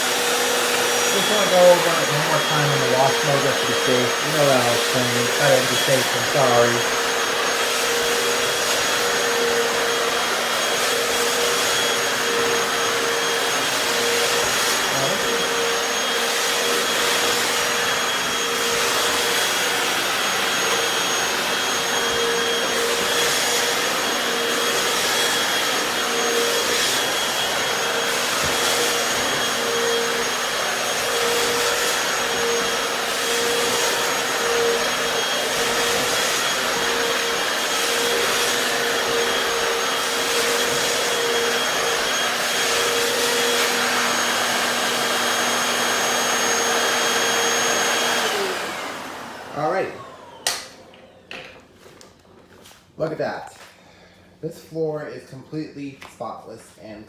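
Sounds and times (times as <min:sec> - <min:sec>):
floor cleaner swishing: 0:00.0 - 0:50.4
floor cleaner motor whining: 0:00.0 - 0:52.8.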